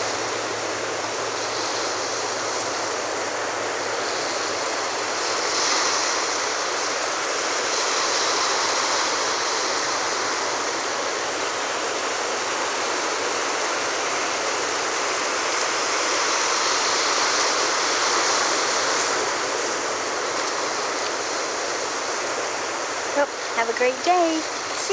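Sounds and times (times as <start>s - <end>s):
waves washing onto sandy beach: 0.0s - 24.9s.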